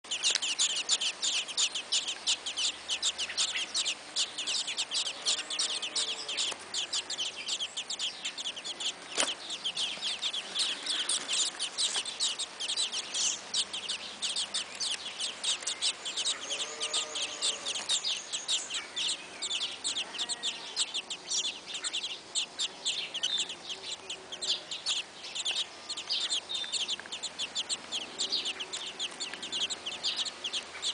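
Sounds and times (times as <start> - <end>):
nestlings cheeping: 0.0 - 30.9.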